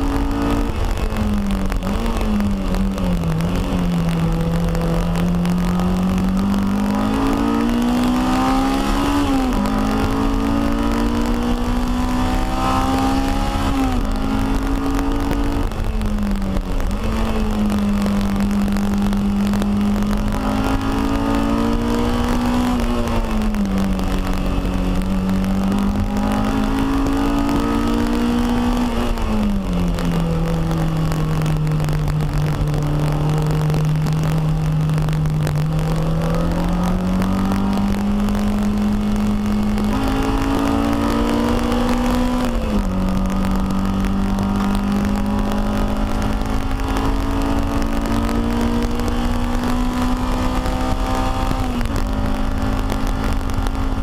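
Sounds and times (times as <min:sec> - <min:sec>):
race car engine revving: 0:00.0 - 0:54.0
road and tyre noise: 0:00.0 - 0:54.0.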